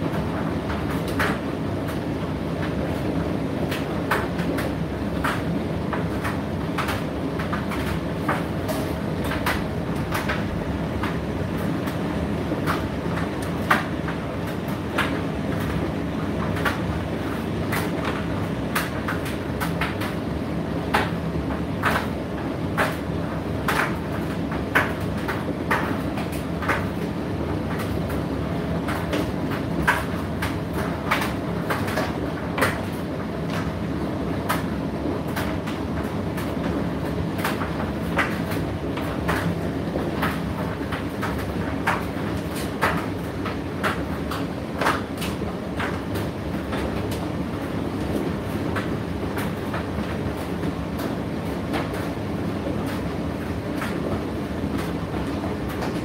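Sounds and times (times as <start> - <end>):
tumble dryer rumbling: 0.0 - 56.0.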